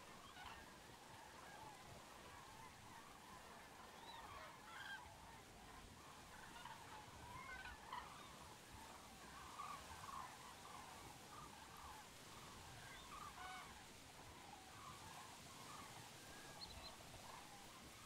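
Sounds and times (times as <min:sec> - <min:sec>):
faint honk-like bird calls: 0:00.0 - 0:18.0
soft outdoor hiss: 0:00.0 - 0:18.0.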